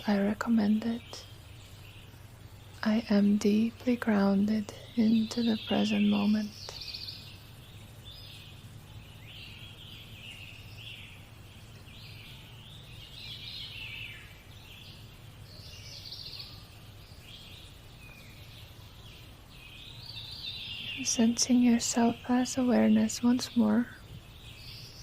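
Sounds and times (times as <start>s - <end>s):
birds chirping and trilling: 0.0s - 25.0s.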